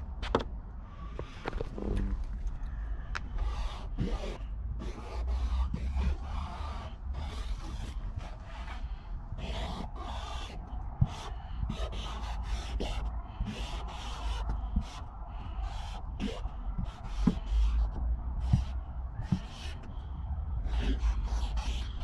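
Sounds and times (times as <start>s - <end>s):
low rumble: 0.0s - 22.0s
marker scratching on cardboard: 3.2s - 20.0s, 20.6s - 22.0s.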